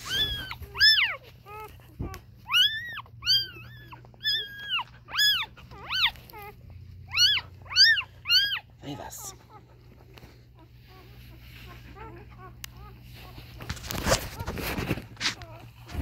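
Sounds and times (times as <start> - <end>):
puppies squealing: 0.0 - 16.0.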